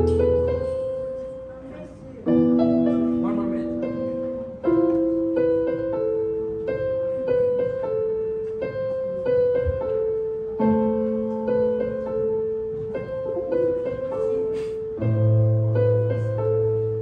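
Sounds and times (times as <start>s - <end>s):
electronic keyboard piano melody: 0.0s - 17.0s.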